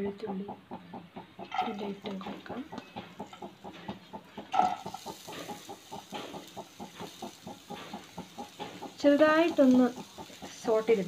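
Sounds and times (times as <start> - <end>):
hot oil crackling in a frying pan: 1.4 - 11.0.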